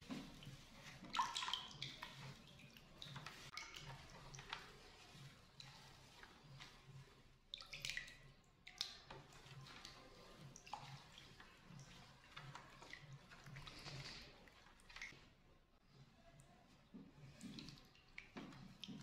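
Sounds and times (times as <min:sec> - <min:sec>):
hand swirling water in bowl: 0:00.0 - 0:19.0
small splashes and drips: 0:00.0 - 0:19.0.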